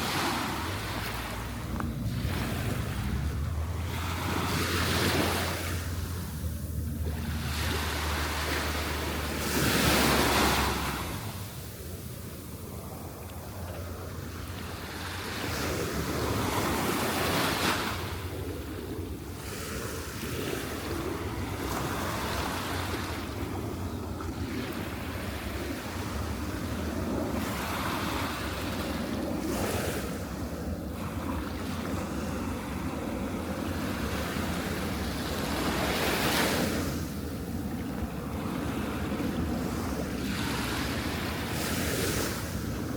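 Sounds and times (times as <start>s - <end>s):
waves breaking on beach: 0.0s - 42.9s
wind rumble on microphone: 0.0s - 42.9s.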